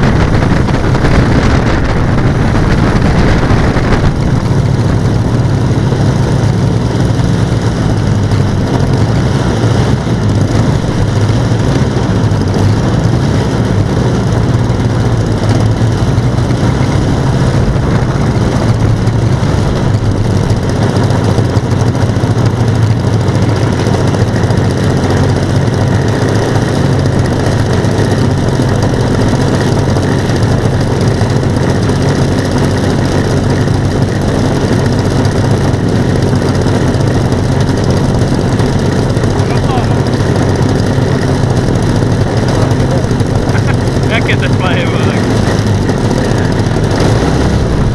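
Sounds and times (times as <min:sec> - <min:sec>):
model aircraft engines droning: 0:00.0 - 0:47.9.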